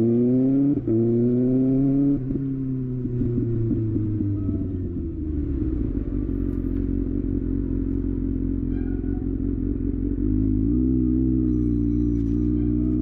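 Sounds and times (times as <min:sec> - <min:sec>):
motorcycle engine revving down and idling: 0:00.0 - 0:13.0.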